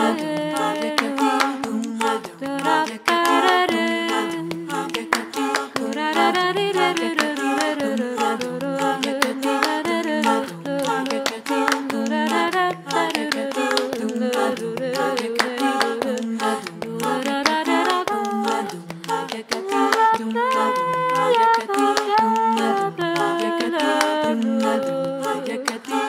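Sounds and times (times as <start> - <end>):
women singing in harmony: 0.0 - 26.0.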